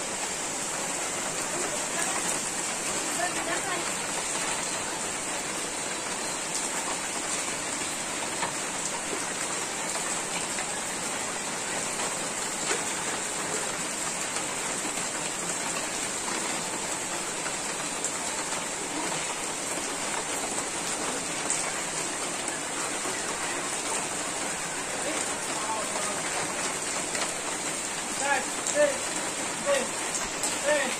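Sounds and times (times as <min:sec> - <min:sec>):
heavy rain falling: 0:00.0 - 0:30.9.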